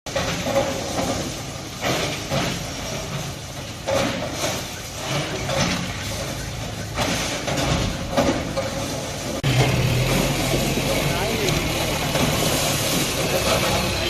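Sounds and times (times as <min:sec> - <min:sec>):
bulldozer engine running: 0:00.1 - 0:14.0
loud crashing and scraping: 0:00.1 - 0:14.0.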